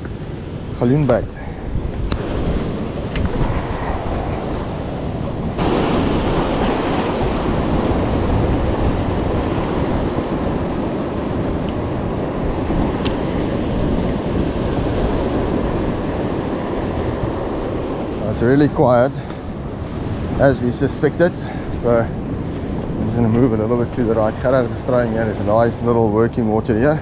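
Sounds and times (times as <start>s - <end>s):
sea surf washing in: 0.0s - 27.0s
wind on microphone: 0.0s - 27.0s.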